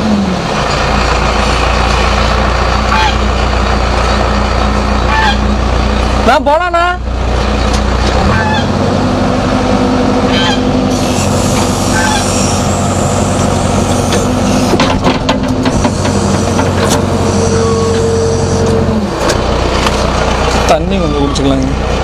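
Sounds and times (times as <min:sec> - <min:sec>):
diesel engine running at raised revs: 0:00.0 - 0:22.0.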